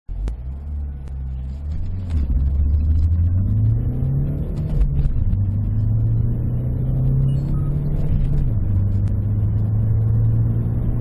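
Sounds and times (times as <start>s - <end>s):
diesel car engine accelerating: 0.1s - 11.0s.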